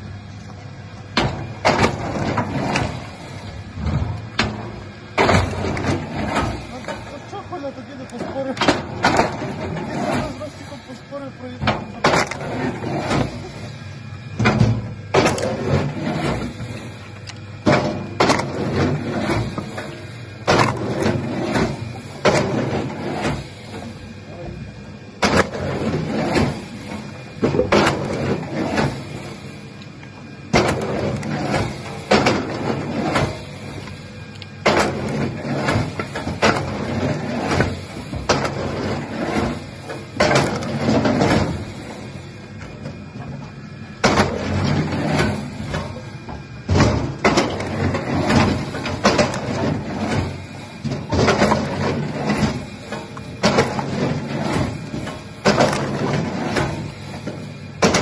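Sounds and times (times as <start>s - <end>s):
low machine hum: 0.0s - 58.0s
loud knocks and grinding: 1.1s - 24.6s, 25.2s - 29.7s, 30.4s - 58.0s.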